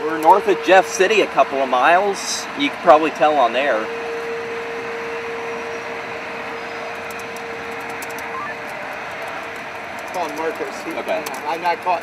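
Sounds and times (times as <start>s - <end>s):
mid-pitched hum: 0.0s - 12.0s
rushing noise inside vehicle cabin: 0.0s - 12.0s.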